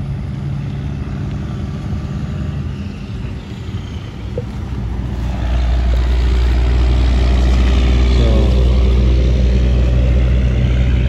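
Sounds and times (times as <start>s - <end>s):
passing cars: 0.0s - 11.0s
truck rumbling past: 0.0s - 11.0s.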